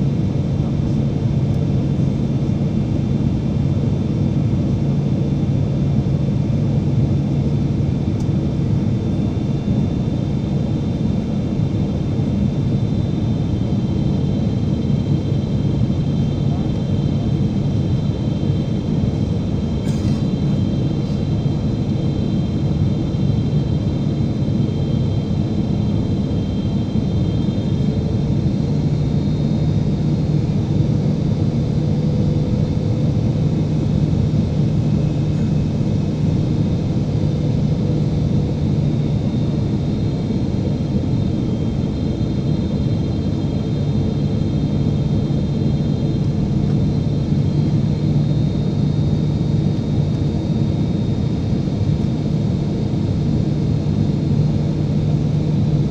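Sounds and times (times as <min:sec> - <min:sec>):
airplane cabin rumble: 0:00.0 - 0:55.9.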